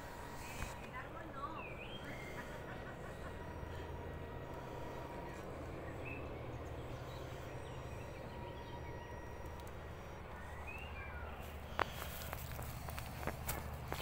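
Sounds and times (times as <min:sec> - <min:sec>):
low steady hum: 0:00.0 - 0:14.0
faint bird chirps: 0:01.4 - 0:13.3.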